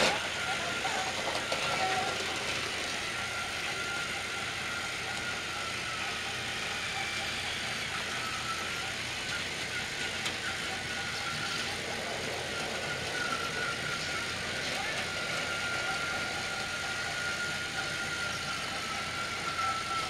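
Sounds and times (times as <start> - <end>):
toy train motors whirring: 0.0 - 20.0.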